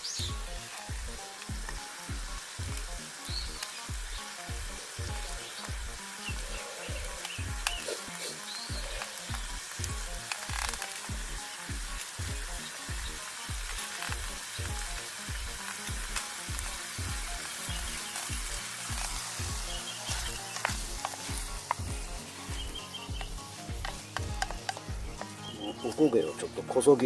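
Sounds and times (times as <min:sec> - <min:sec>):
utensil stirring and scraping: 0:00.0 - 0:26.0
vegetables sizzling in pot: 0:00.0 - 0:27.0.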